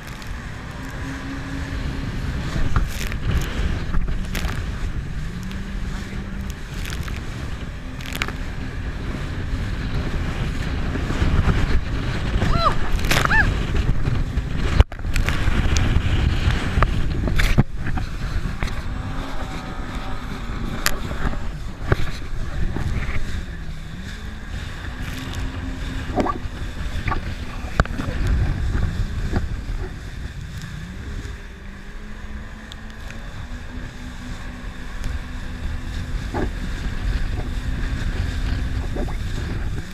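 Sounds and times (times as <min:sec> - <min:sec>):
jet ski engine running: 0:00.0 - 0:39.9
water noise: 0:00.0 - 0:39.9
wind noise: 0:00.0 - 0:39.9.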